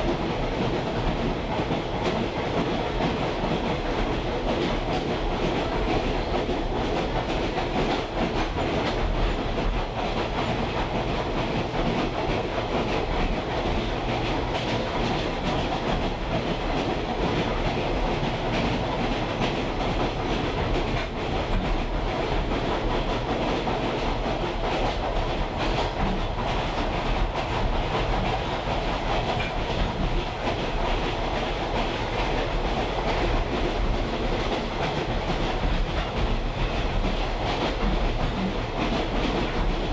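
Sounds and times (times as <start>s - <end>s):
train rumbling and rattling on track: 0.0s - 39.9s.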